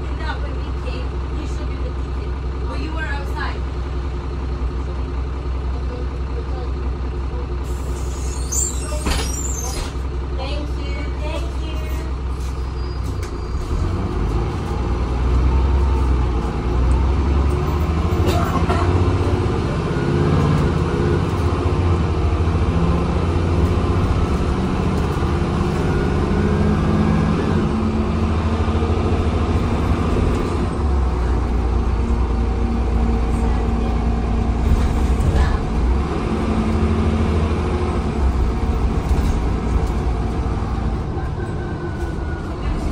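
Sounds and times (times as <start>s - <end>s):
bus engine drone: 0.0s - 42.9s.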